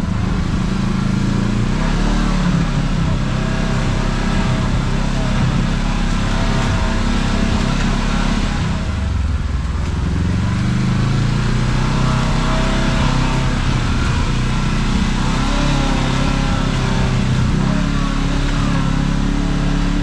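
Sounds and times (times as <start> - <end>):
driving noise: 0.0 - 20.0
vehicle engine running: 0.0 - 20.0.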